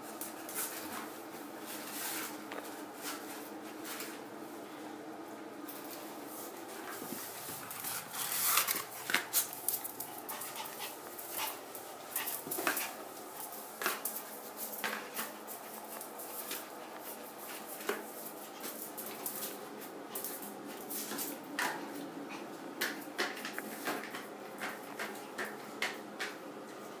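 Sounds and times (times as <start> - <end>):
dog scuffling and clicking: 0.0 - 4.3, 5.6 - 26.9.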